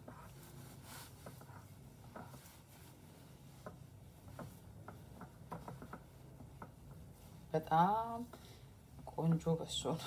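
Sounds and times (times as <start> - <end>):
gloved hands rubbing dough: 0.0 - 10.0.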